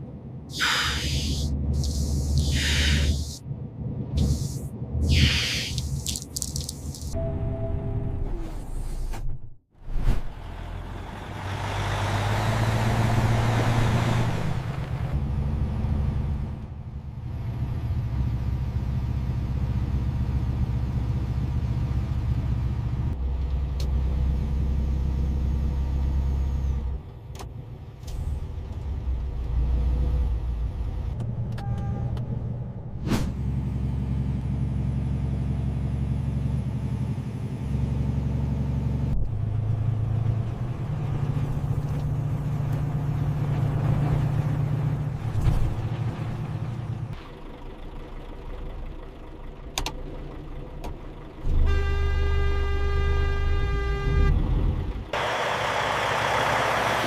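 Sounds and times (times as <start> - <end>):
truck engine drone: 0.0 - 57.0.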